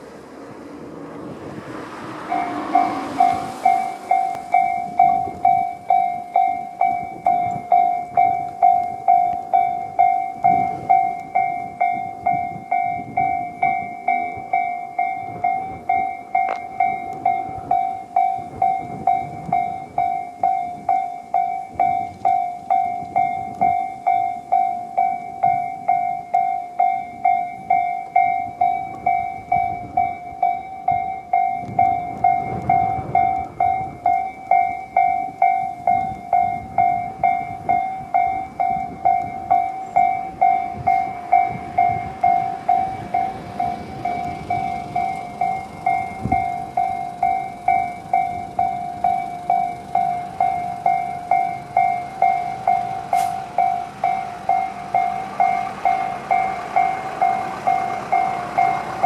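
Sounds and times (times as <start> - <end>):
train rumbling past: 0.0 - 59.0
level crossing alarm dinging: 2.1 - 59.0.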